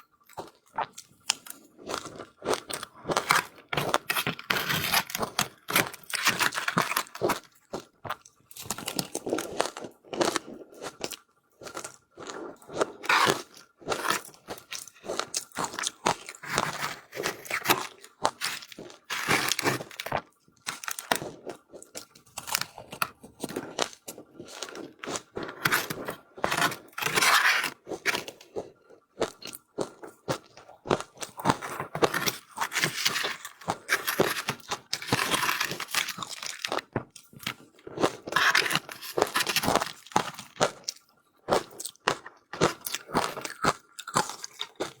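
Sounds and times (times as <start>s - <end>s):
ice being crunched and chewed: 0.0s - 45.0s.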